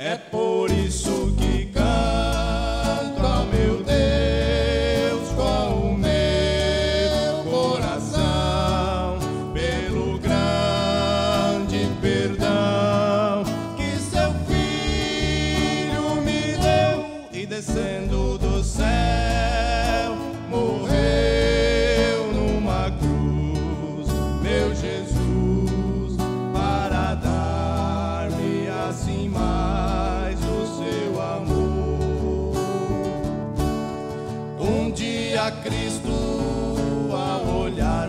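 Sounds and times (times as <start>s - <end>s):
men singing gospel song: 0.0s - 33.4s, 34.3s - 38.0s
acoustic guitar: 0.0s - 38.0s.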